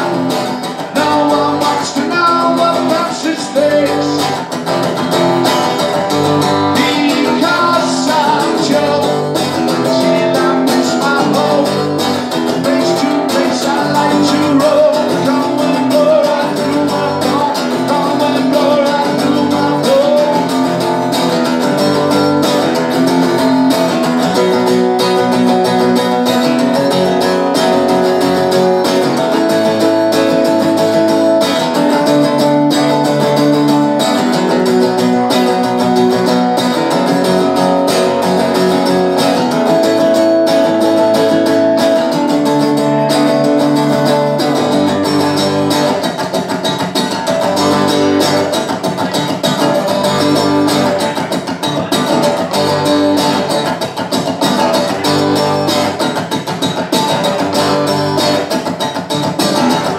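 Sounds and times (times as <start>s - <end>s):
bass guitar: 0.0s - 59.9s
strummed guitars: 0.0s - 59.9s.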